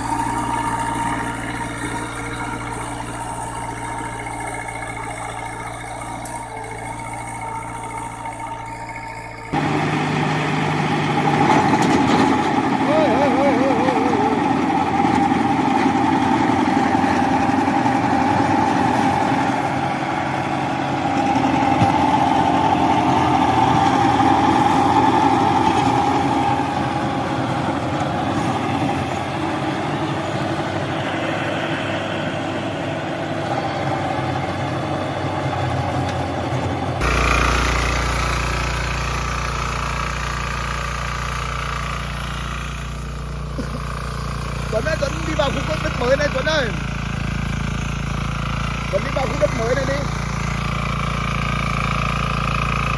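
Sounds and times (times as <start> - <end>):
rumbling engine running: 0.0 - 52.9
walking tractor engine running: 0.0 - 52.9.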